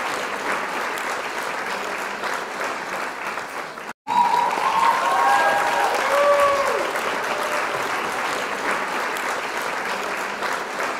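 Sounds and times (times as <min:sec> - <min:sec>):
applause: 0:00.0 - 0:10.9.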